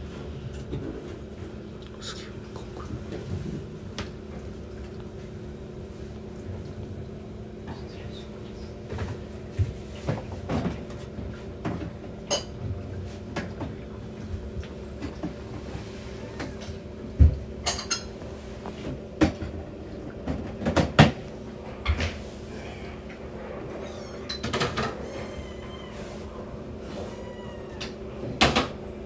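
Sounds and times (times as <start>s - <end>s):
steady low hum: 0.0s - 27.3s.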